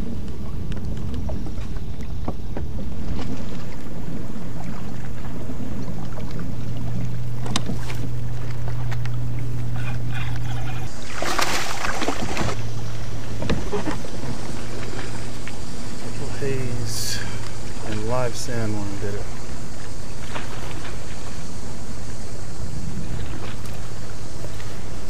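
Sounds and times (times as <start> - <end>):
water splashing: 0.0 - 22.2
low rumble of water and wind: 0.0 - 25.0
steady low hum: 0.0 - 25.0.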